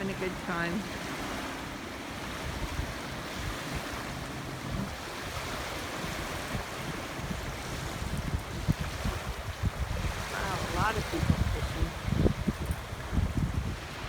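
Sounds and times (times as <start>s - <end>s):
rushing water: 0.0s - 14.0s
wind rumbling on microphone: 0.0s - 14.0s.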